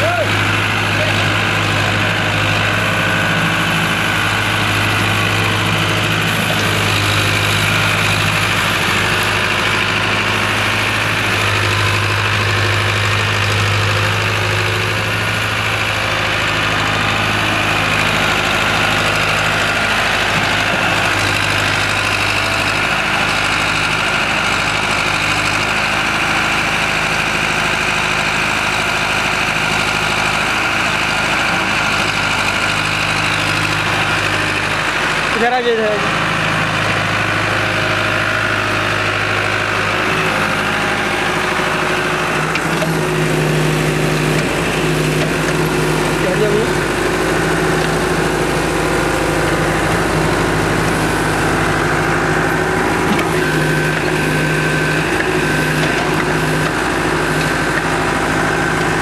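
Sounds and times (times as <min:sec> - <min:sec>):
tractor diesel engine humming: 0:00.0 - 0:59.0.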